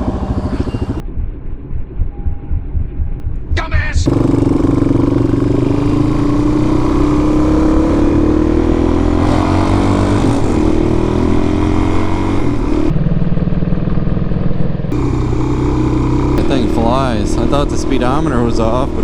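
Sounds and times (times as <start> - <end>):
motorcycle engine revving: 0.0 - 1.0, 4.0 - 19.0.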